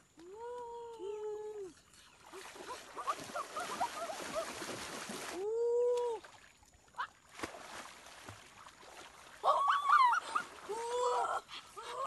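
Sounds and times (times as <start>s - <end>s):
splashing through shallow water: 0.2s - 12.0s.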